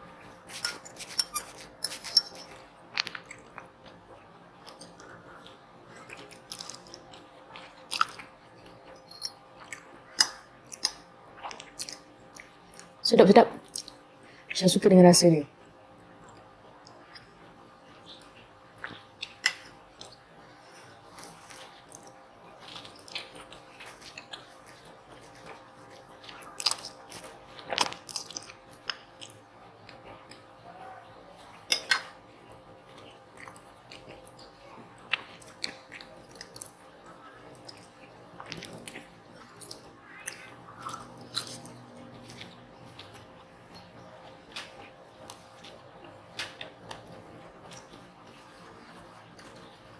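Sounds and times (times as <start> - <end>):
chewing food: 0.0 - 13.0, 13.6 - 14.6, 16.2 - 49.9.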